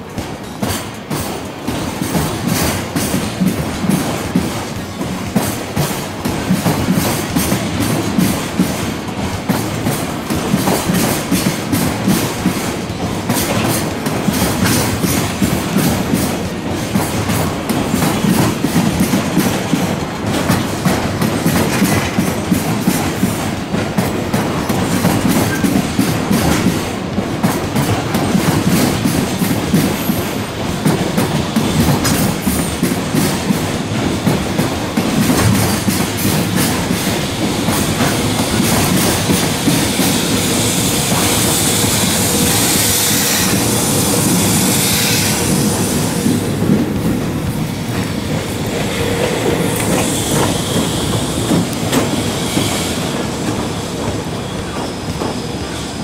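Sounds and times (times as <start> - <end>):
steel wheels clattering over rail joints: 0.0 - 56.0.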